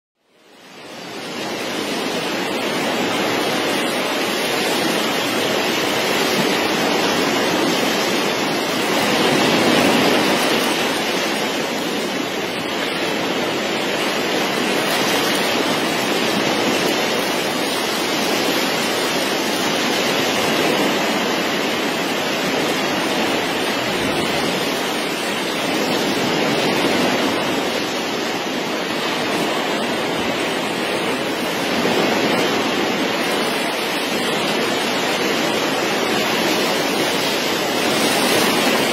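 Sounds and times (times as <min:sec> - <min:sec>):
sea water rushing and sloshing: 0:00.3 - 0:38.9.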